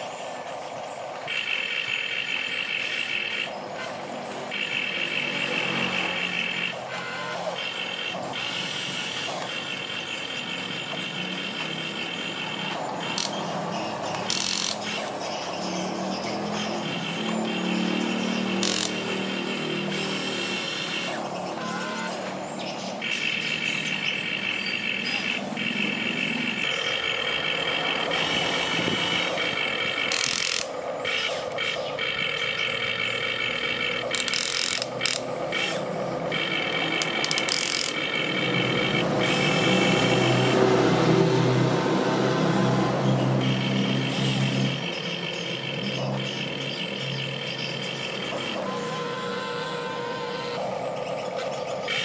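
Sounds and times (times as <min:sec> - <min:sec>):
electric motors whining: 0:00.0 - 0:52.0.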